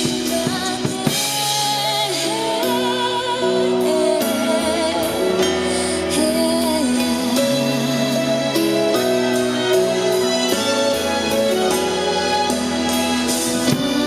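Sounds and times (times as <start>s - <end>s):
piano and keyboard chords: 0.0s - 14.0s.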